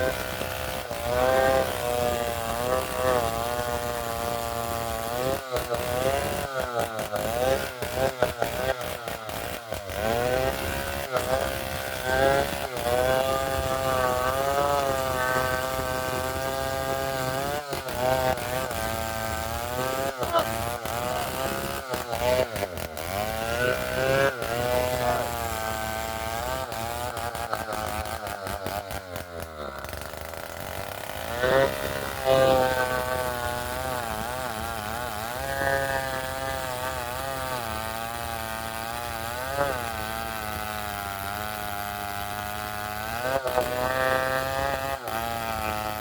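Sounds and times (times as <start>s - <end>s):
chainsaw cutting under load: 0.0s - 46.0s.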